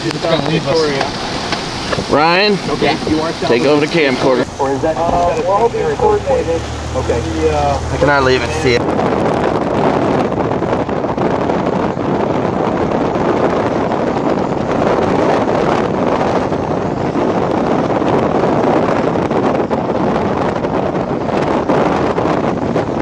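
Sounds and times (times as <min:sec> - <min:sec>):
wind blowing on microphone: 0:00.0 - 0:23.0.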